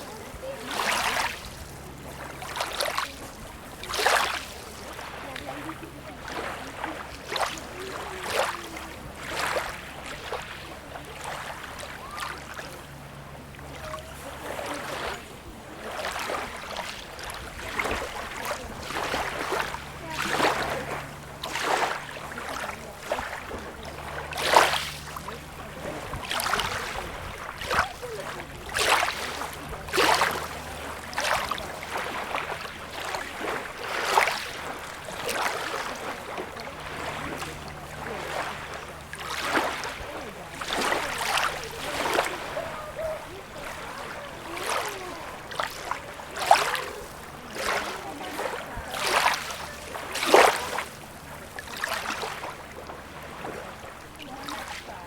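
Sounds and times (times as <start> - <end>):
small waves lapping and splashing: 0.0 - 55.0.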